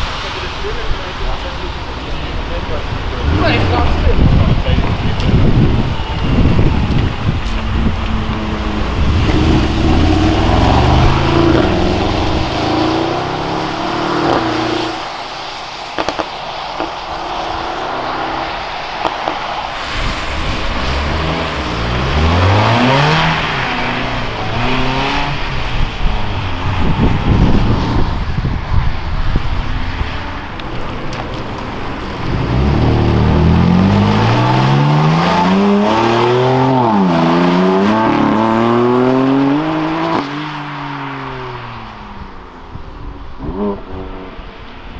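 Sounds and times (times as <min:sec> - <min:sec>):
tyres hissing on wet asphalt: 0:00.0 - 0:38.4
car engines accelerating: 0:00.0 - 0:44.9.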